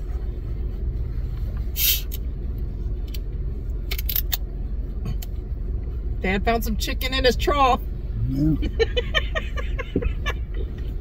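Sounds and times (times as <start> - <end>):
low car rumble: 0.0 - 11.0.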